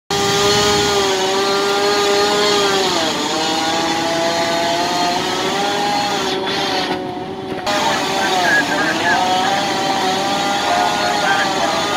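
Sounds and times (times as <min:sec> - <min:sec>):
gas-powered saw cutting: 0:00.1 - 0:11.9.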